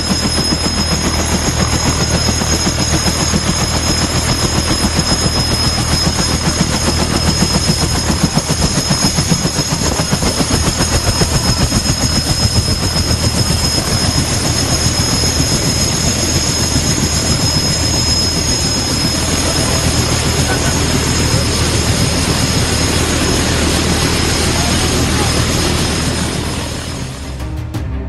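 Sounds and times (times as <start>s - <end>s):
helicopter rotor chop: 0.0s - 27.6s
turbine whine: 0.0s - 27.6s.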